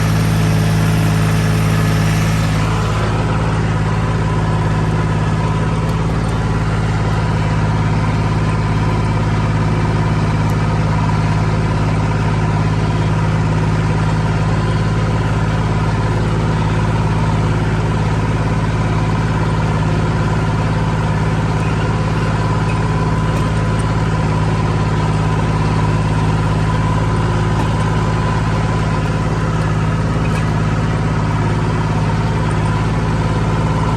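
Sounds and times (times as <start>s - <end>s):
machine engine running steadily: 0.0s - 33.9s.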